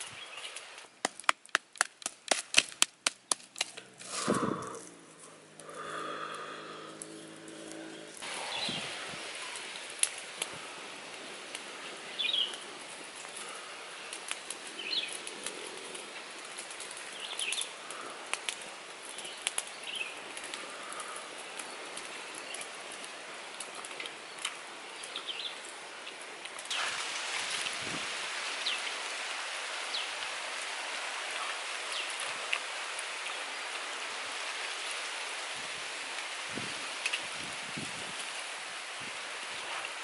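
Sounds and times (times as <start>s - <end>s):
outdoor hiss: 0.0s - 1.4s, 2.2s - 40.0s
wood fire crackling and popping: 0.0s - 40.0s.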